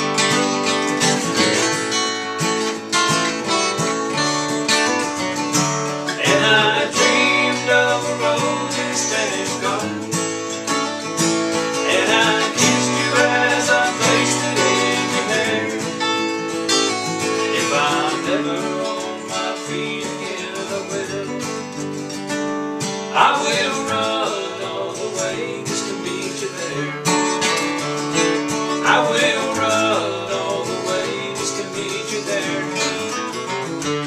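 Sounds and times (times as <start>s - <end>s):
acoustic guitar duet: 0.0s - 34.0s.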